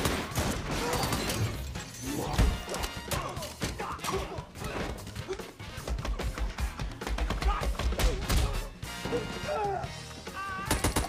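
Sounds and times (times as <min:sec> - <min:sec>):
soundtrack music: 0:00.0 - 0:11.0.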